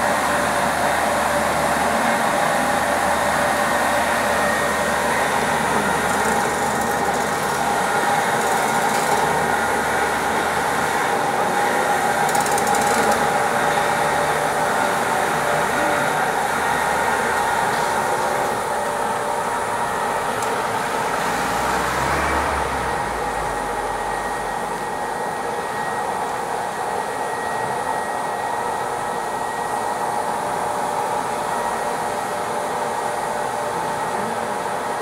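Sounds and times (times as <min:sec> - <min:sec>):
road-repair machinery droning: 0:00.0 - 0:35.0.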